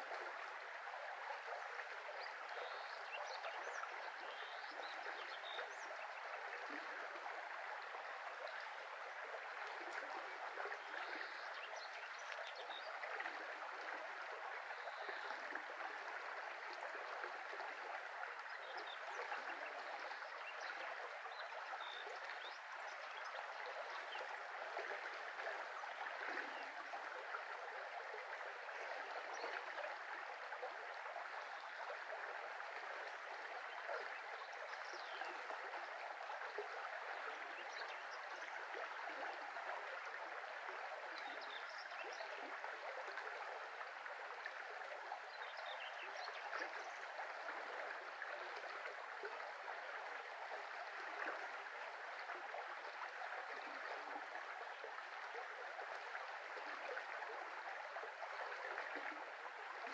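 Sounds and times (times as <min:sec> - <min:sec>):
shallow brook flowing: 0:00.0 - 0:59.9.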